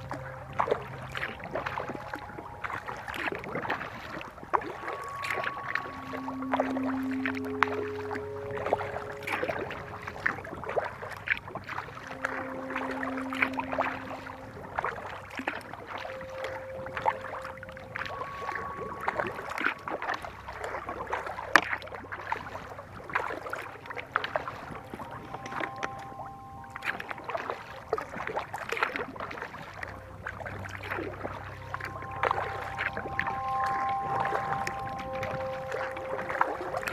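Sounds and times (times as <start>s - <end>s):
paddle splashing in water: 0.0s - 36.9s
water dripping: 0.0s - 36.9s.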